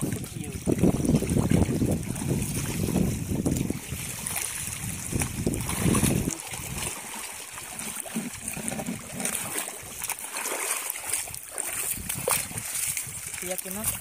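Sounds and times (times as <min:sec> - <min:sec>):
wind rumbling on microphone: 0:00.0 - 0:10.1, 0:11.0 - 0:14.0
seawater trickling among rocks: 0:00.0 - 0:14.0.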